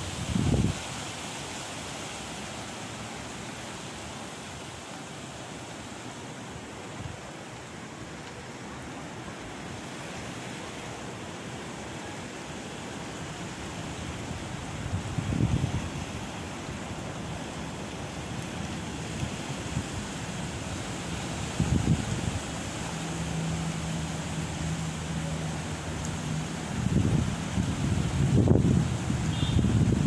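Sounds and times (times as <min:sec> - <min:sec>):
wind through palm fronds: 0:00.0 - 0:30.0.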